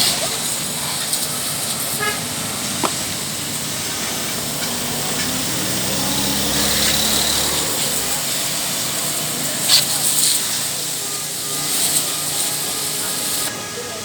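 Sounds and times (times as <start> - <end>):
motor hum: 0.0 - 13.4
pressure washer spraying water: 0.0 - 14.0.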